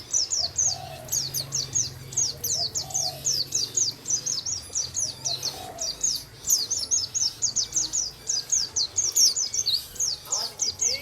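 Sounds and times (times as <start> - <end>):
songbird high chirps: 0.0 - 11.0.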